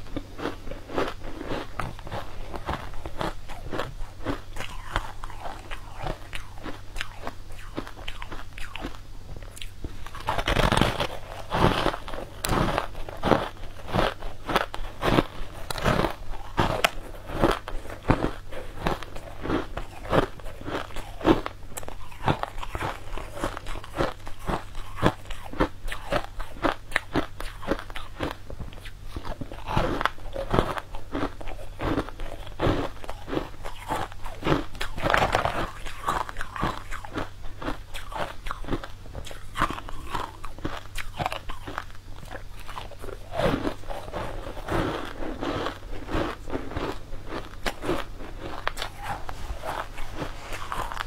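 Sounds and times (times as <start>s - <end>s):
crunching frozen cubes: 0.1s - 28.4s, 29.1s - 51.0s.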